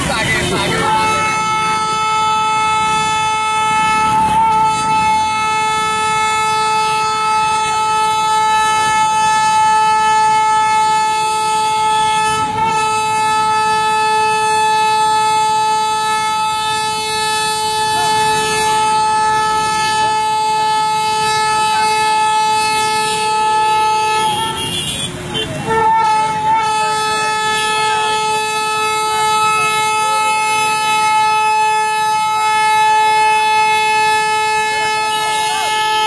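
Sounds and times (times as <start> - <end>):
locomotive air horn blast: 0.0 - 36.0.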